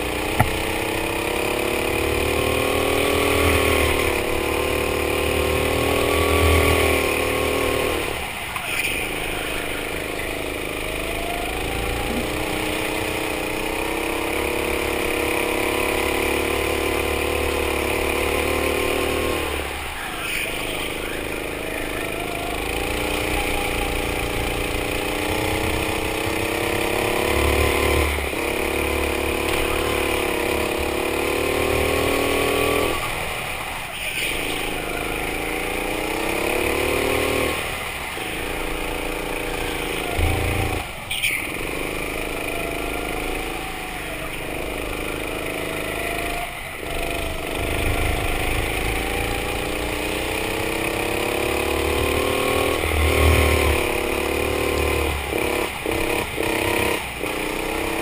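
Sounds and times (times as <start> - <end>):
go-kart engine: 0.0 - 58.0.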